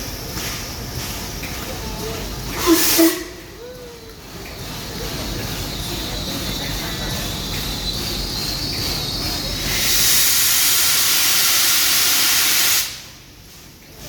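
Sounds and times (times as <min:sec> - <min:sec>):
steam locomotive hissing steam: 0:00.0 - 0:14.0.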